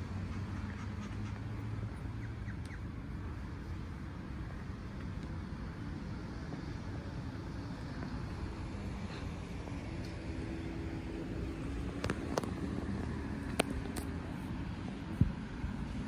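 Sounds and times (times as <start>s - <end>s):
street traffic: 0.0s - 16.0s
vehicle engine hum: 0.0s - 16.0s.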